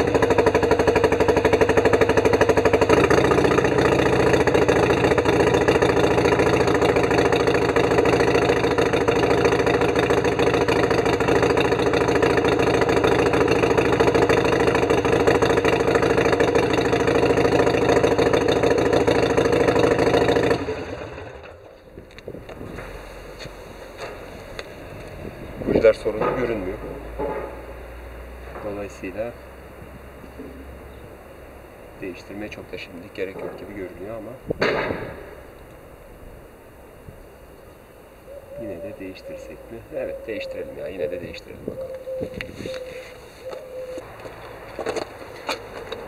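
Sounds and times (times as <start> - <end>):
motorcycle engine idling: 0.0 - 36.6, 41.7 - 46.0.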